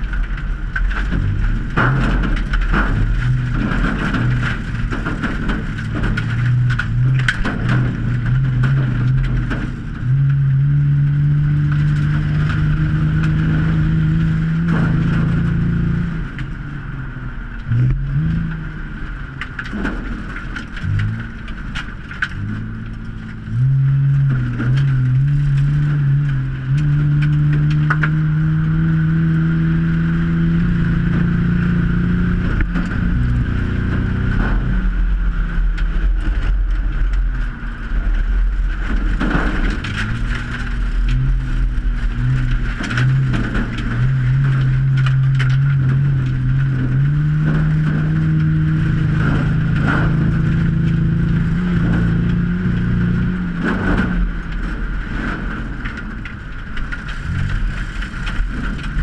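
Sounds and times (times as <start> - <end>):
car body clicks and rattles: 0.0 - 59.0
race car engine revving: 0.0 - 59.0.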